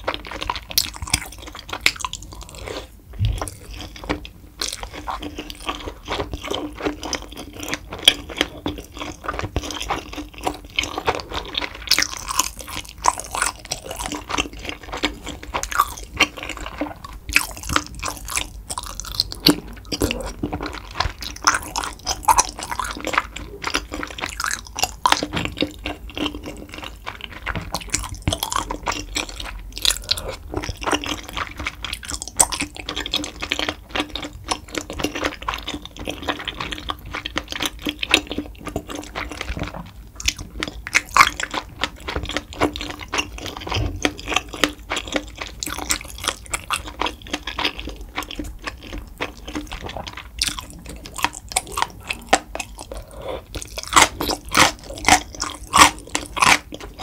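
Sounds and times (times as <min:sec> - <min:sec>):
close chewing with mouth clicks: 0:00.0 - 0:57.0.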